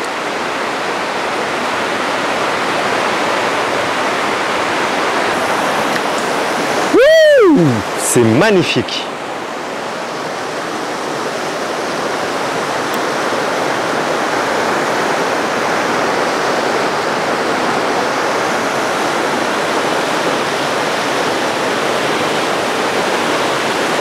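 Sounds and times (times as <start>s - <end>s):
river rapids rushing over rocks: 0.0s - 24.0s.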